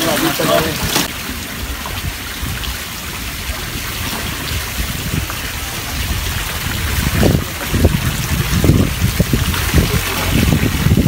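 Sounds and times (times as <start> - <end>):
water splashing around boat: 0.0 - 11.0
steady low rumble: 1.1 - 11.0.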